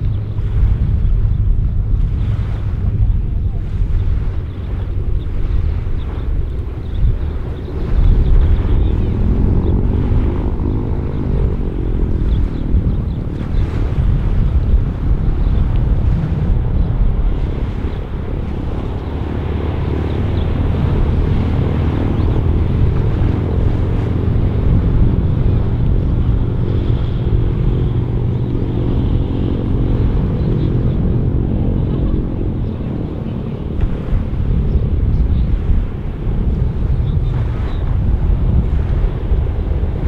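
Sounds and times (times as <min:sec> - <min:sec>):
aircraft radial engines droning: 0:04.2 - 0:40.0.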